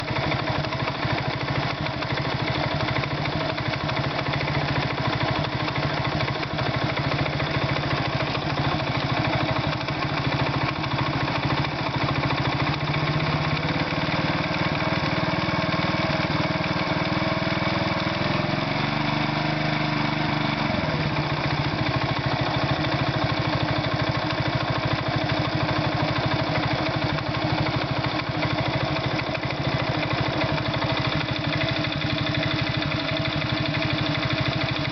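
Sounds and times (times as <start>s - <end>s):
moped engine idling with a knock: 0.0s - 18.9s, 21.1s - 34.9s.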